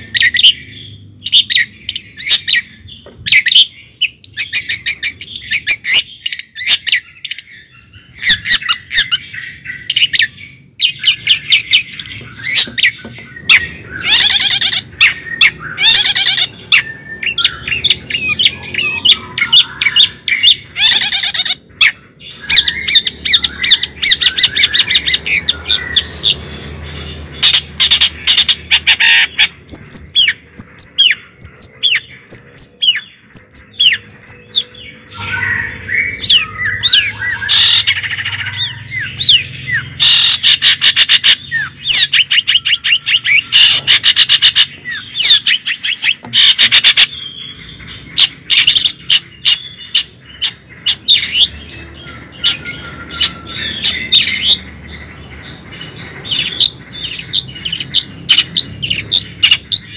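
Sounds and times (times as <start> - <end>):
birds chirping and whistling: 0.0 - 59.9
rapid clicking bird chatter: 8.2 - 59.9.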